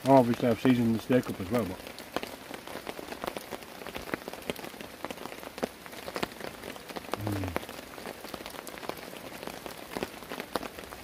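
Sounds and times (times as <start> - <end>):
heavy rain falling: 0.0 - 11.0
raindrops striking close: 0.0 - 11.0.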